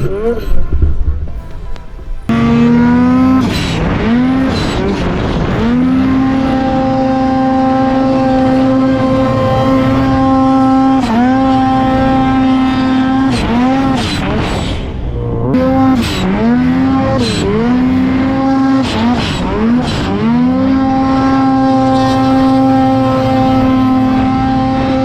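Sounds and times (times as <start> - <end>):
snowmobile engine revving: 1.7 - 25.0.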